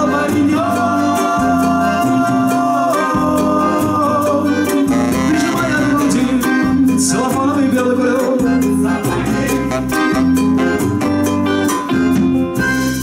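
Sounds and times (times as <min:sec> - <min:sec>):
bass guitar: 0:00.0 - 0:13.0
drums: 0:00.0 - 0:13.0
saxophone: 0:00.0 - 0:13.0.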